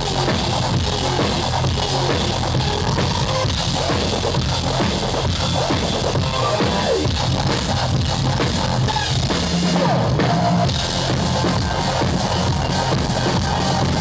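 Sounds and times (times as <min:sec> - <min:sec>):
electronic keyboard synthesizer: 0:00.0 - 0:14.0
rock drum kit: 0:00.0 - 0:14.0.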